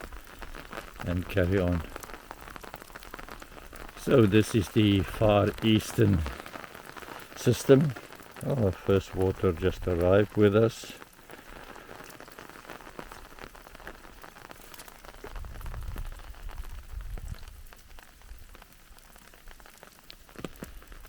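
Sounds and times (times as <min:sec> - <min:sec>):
light rain patter: 0:00.0 - 0:21.0.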